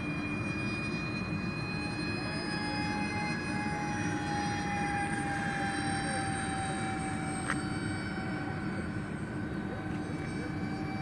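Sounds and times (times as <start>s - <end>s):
electric ducted-fan jet whine: 0.0s - 11.0s.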